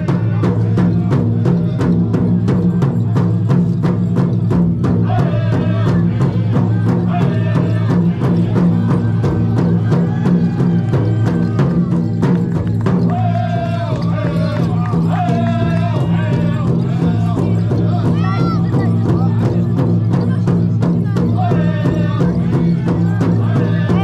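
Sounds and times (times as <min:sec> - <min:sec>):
people singing: 0:00.0 - 0:04.0, 0:04.8 - 0:24.0
fast drumbeat: 0:00.0 - 0:24.0.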